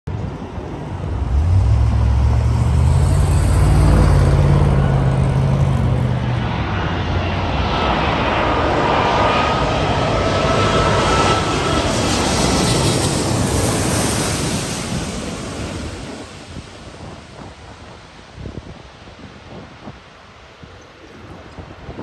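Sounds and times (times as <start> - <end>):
high engine whine: 0.1 - 18.9
airliner jet roar on approach: 0.1 - 22.0.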